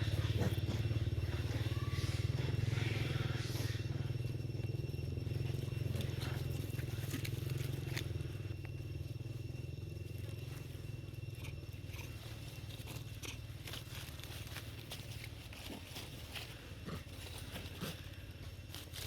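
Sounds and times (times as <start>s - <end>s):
low engine-like hum: 0.0s - 19.0s.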